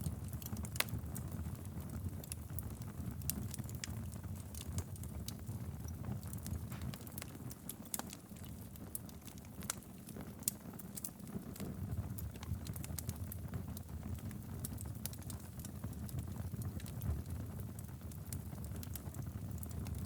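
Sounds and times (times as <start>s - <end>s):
low rumble of flames: 0.0s - 20.0s
wood crackling and popping: 0.0s - 20.0s.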